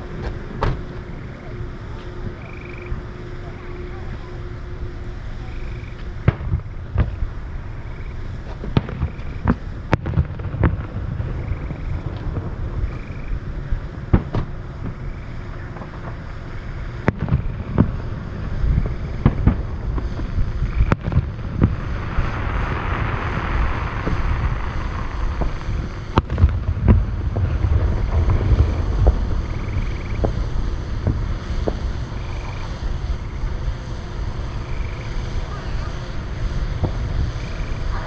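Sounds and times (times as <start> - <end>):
distant fireworks booming: 0.0 - 38.0
hissing rush: 0.0 - 38.0
wind rumble on microphone: 0.0 - 38.0.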